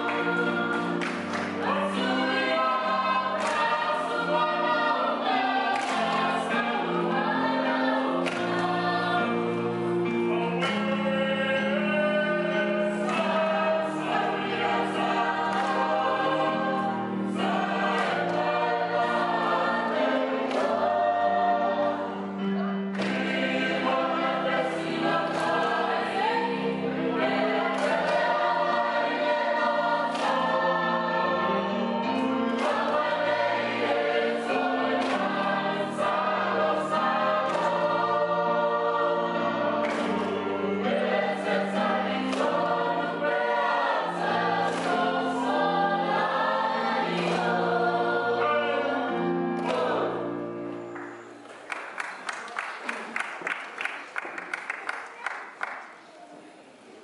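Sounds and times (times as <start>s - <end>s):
group singing in harmony: 0.0s - 51.4s.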